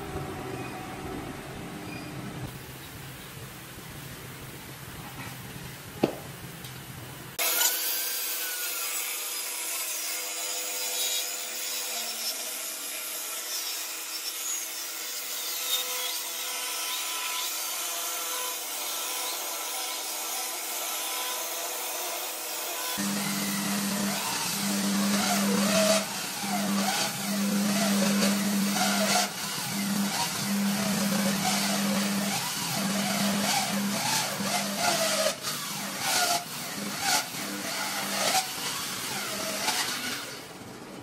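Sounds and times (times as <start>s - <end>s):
circular saw cutting wood: 7.4s - 40.8s.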